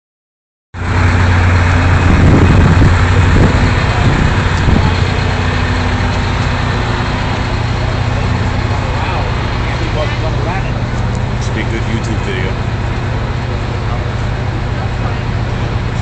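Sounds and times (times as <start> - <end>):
heavy truck engine idling: 0.8 - 16.0.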